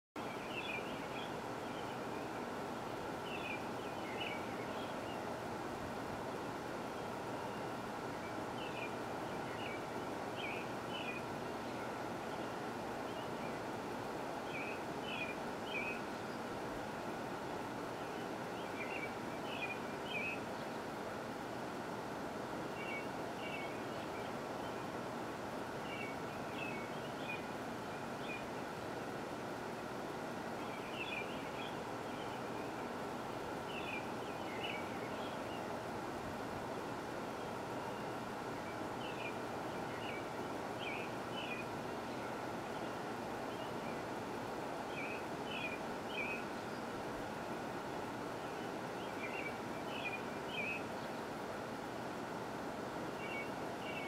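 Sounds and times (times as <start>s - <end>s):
steady outdoor background noise: 0.2s - 54.0s.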